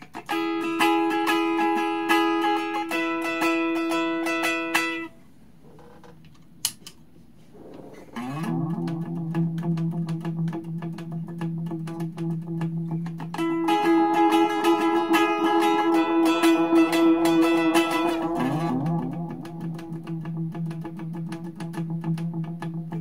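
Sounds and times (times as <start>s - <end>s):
electric guitar with delay: 0.0s - 5.1s, 8.2s - 23.0s.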